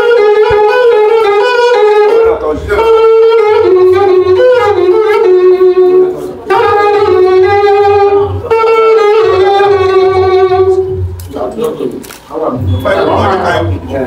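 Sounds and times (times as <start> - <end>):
steady low beat: 0.0 - 14.0
wind instrument melody: 0.0 - 14.0.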